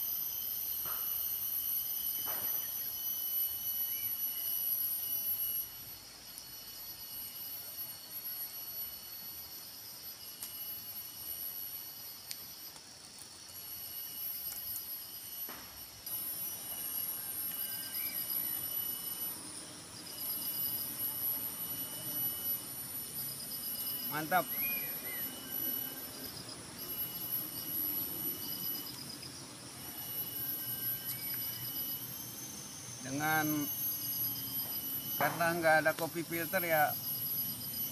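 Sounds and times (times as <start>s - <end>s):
insects chirring: 0.0s - 37.9s.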